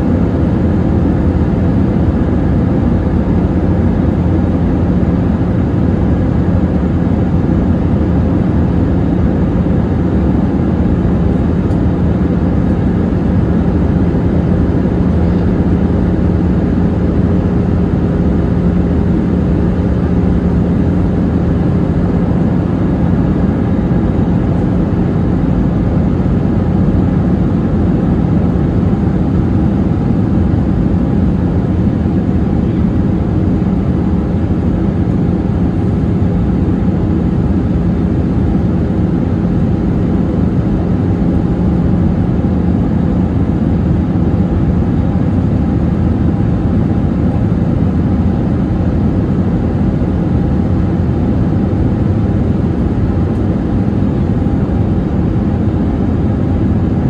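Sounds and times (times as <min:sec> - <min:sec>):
airplane cabin airflow and engines: 0:00.0 - 0:57.0.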